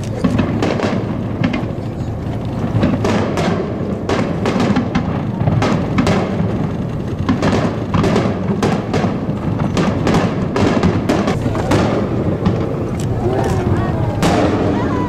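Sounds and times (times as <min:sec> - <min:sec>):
continuous fireworks rumble: 0:00.0 - 0:15.0
fireworks bursting: 0:00.0 - 0:15.0.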